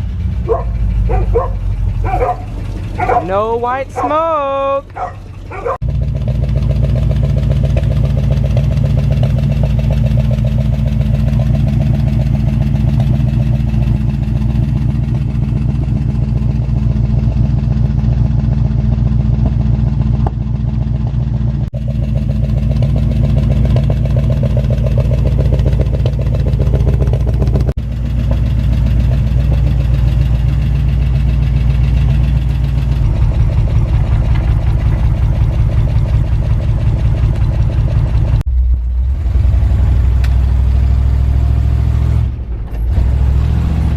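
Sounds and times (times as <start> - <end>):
truck engine idling: 0.0 - 41.7.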